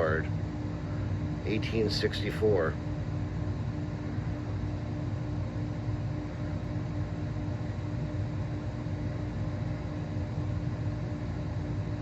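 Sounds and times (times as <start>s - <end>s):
faint constant tone: 0.0s - 12.0s
low mechanical hum: 0.0s - 12.0s.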